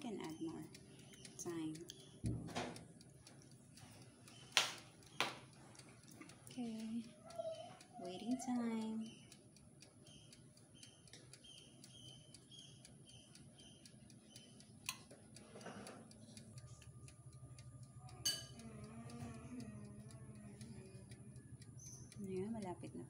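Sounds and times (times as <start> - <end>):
mechanical timer ticking: 0.0 - 23.0
sharp clicks: 0.2 - 7.0, 7.6 - 23.0.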